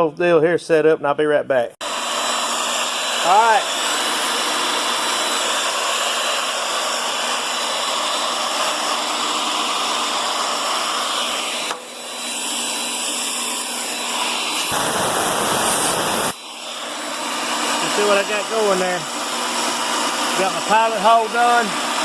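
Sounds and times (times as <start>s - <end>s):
electric drill motor drilling metal: 1.8s - 22.0s.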